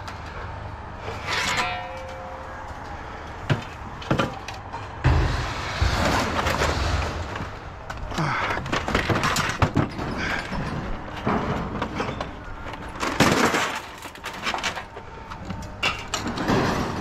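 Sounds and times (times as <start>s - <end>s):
scrap metal clanking and scraping: 1.0s - 17.0s.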